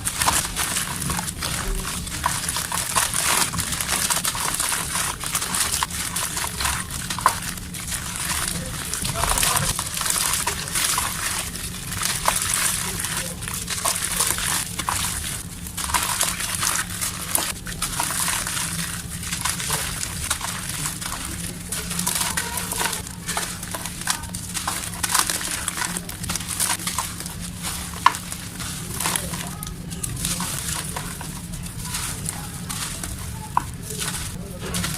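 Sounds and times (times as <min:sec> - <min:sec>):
dry mud crumbling by hand: 0:00.0 - 0:34.9.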